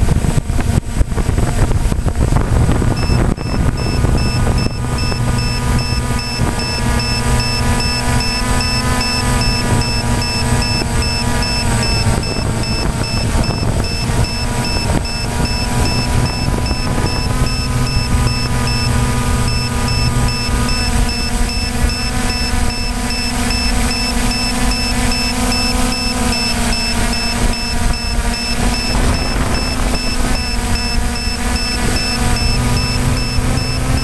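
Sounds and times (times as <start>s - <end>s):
drone propellers buzzing: 0.0s - 34.0s
high electronic pips: 2.3s - 34.0s.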